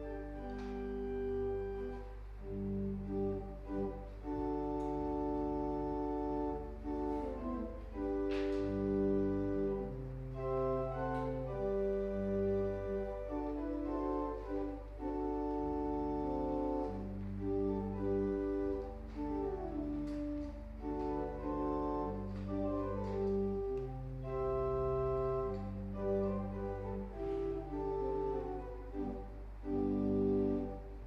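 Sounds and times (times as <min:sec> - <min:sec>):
organ chords: 0:00.0 - 0:31.0.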